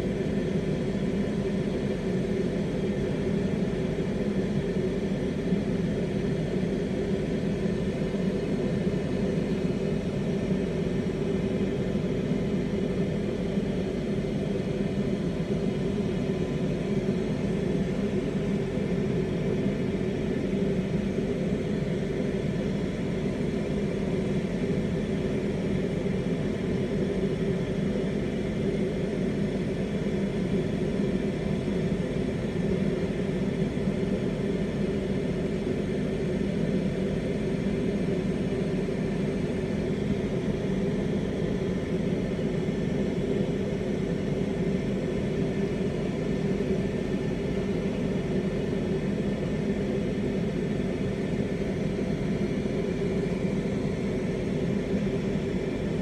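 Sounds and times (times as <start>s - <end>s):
low even hum: 0.0s - 56.0s.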